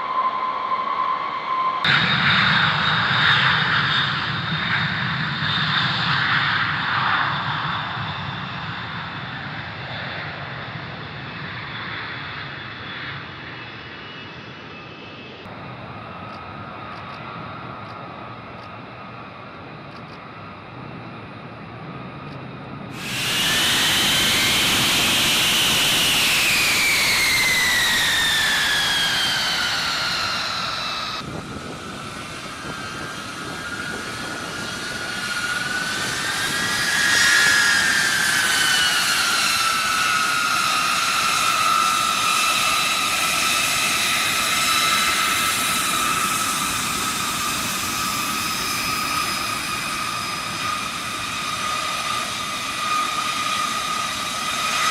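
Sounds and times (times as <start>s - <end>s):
jet engines whining and rushing: 0.0s - 54.9s.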